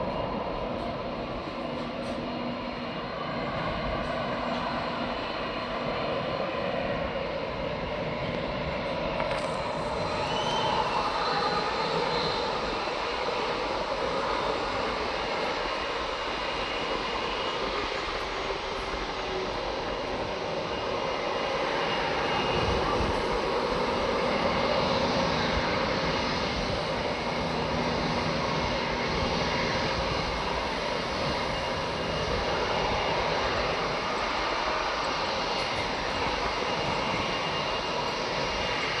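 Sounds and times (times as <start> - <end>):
jet engines running: 0.0 - 39.0
faint high whine: 7.7 - 39.0.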